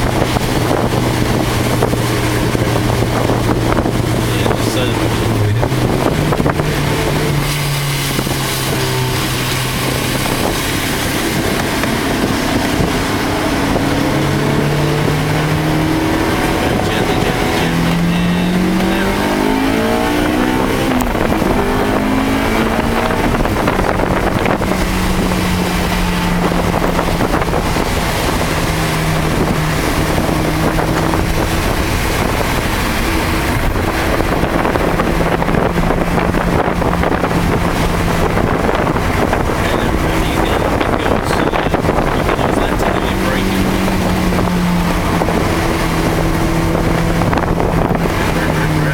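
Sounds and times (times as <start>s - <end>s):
car engine accelerating: 0.0s - 48.9s
tyre noise on wet track: 0.0s - 48.9s
wind rushing: 0.0s - 48.9s.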